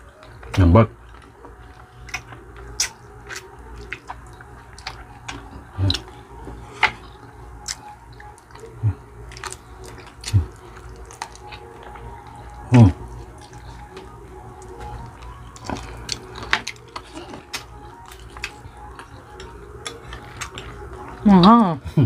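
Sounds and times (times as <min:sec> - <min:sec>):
wet chewing and sucking: 0:00.4 - 0:21.2.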